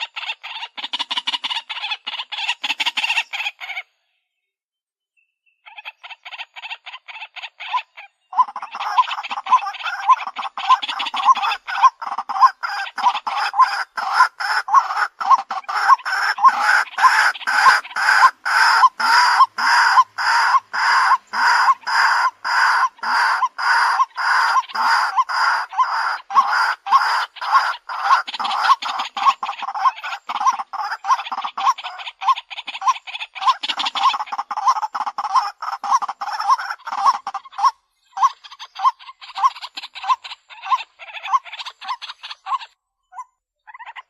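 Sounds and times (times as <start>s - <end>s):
bird harsh clucking call: 0.0s - 4.0s, 5.6s - 44.0s.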